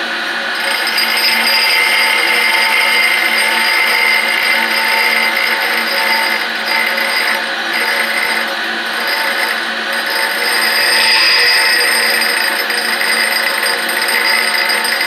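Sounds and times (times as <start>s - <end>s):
grinder machine whine: 0.0s - 15.0s.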